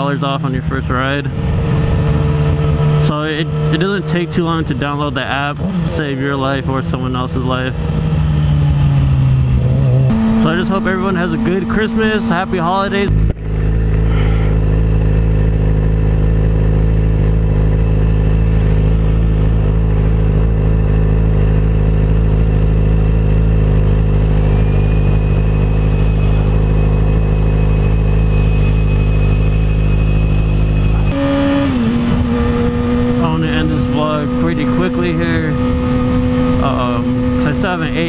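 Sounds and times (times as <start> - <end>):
motorcycle pulling away: 1.4 - 38.0
motorcycle engine idling: 1.5 - 38.0.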